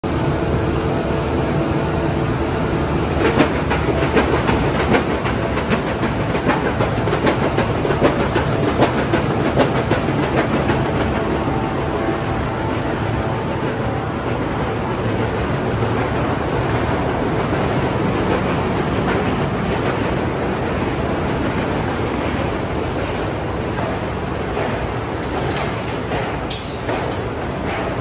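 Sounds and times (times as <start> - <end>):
machine din with rhythmic clacking: 3.0 - 11.6, 13.5 - 28.0.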